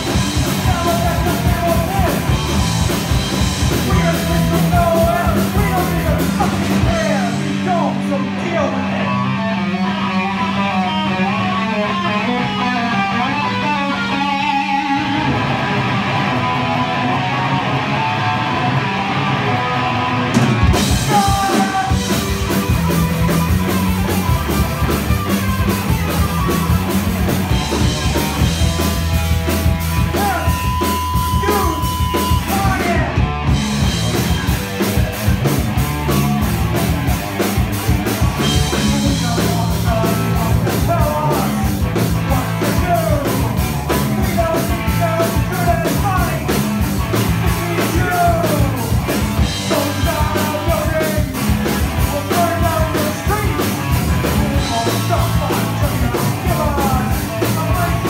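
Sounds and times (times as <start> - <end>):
drums: 0.0 - 58.0
electric guitars: 0.0 - 58.0.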